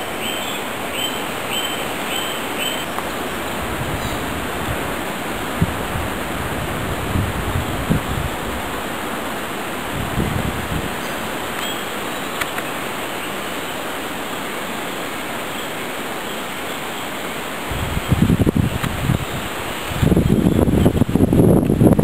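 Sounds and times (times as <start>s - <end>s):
stream running over stones: 0.0s - 22.0s.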